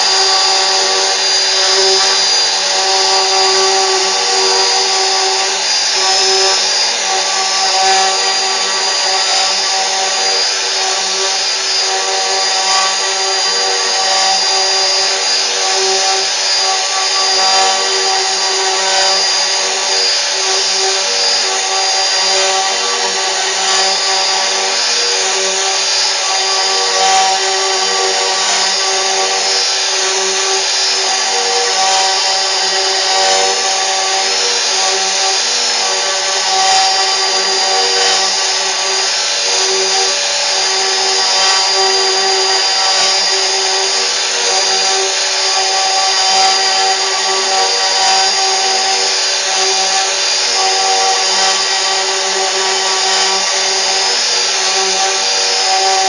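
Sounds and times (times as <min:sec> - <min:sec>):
rough cutting noise: 0:00.0 - 0:56.0
router spindle whine: 0:00.0 - 0:56.0.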